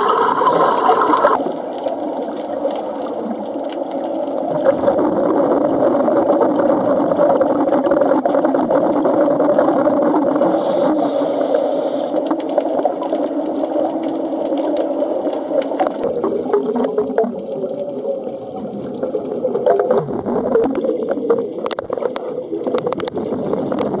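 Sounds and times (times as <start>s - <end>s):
scuba diver's exhaled bubbles: 0.0s - 24.0s.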